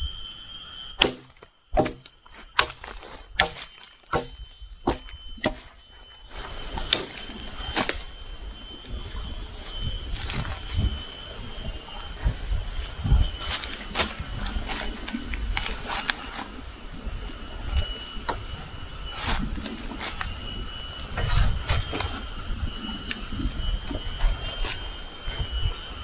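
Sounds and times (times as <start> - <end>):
cicadas whining: 0.0 - 26.0
dry leaves rustling: 0.1 - 26.0.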